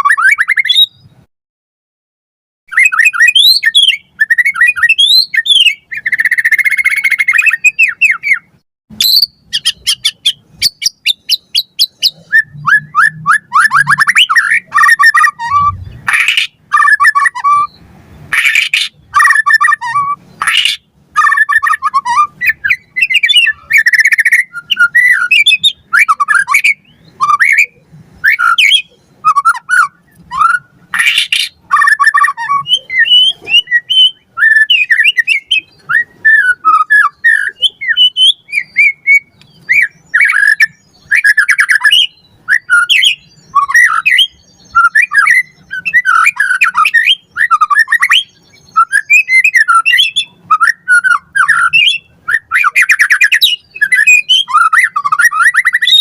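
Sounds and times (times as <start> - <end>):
songbird whistling: 0.0 - 1.2, 2.7 - 56.0.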